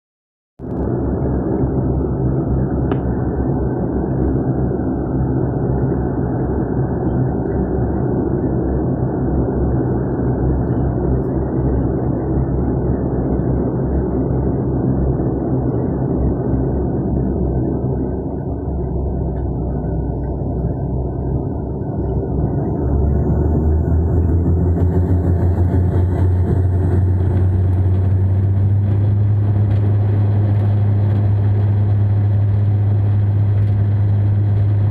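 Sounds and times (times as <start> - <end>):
airliner engine rumble: 0.6 - 34.9
jet engines spooling up: 0.7 - 34.9.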